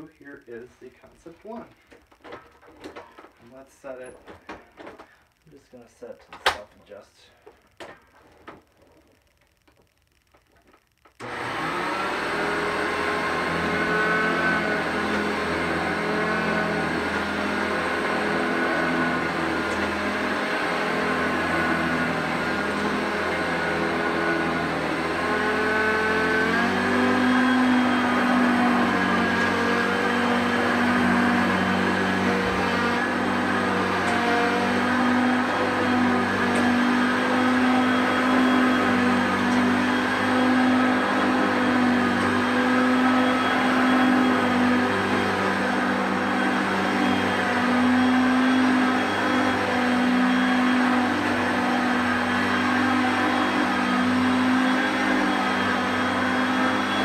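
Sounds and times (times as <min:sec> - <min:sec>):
vacuum cleaner motor whine: 0:11.1 - 0:57.0.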